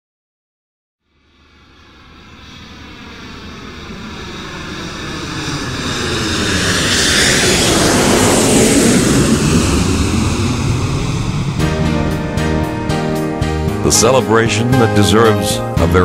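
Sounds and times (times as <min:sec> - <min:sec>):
rushing whoosh sound effect: 0:01.1 - 0:14.7.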